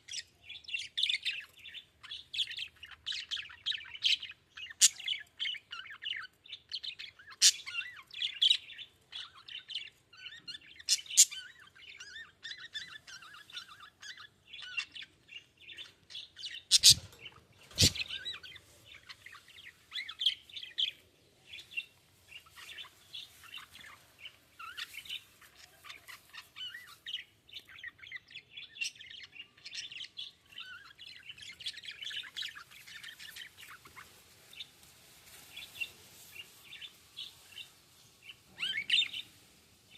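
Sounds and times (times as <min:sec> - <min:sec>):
budgies chirping and warbling: 0:00.0 - 0:34.7, 0:35.4 - 0:39.9.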